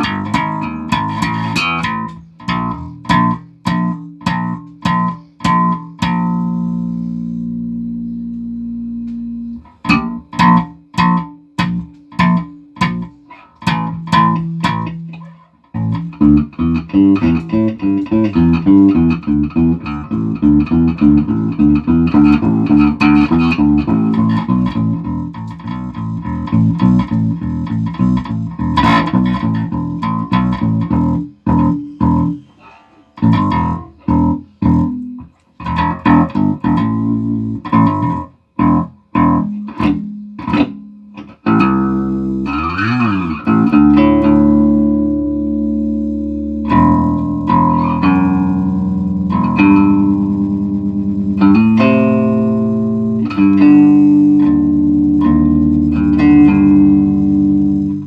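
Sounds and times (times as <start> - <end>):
electric bass guitar notes: 0.0 - 58.0.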